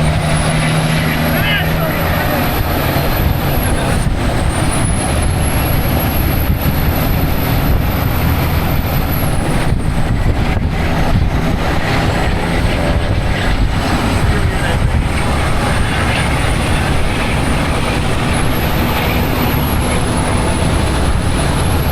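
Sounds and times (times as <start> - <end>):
truck engine drone: 0.0 - 21.9.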